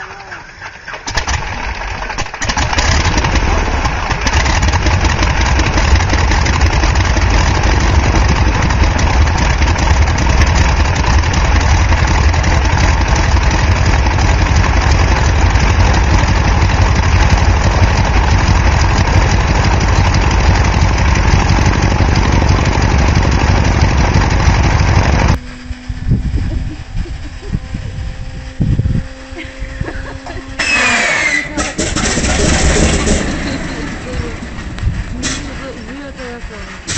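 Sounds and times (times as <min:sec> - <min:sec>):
aircraft engine running: 0:00.0 - 0:36.9.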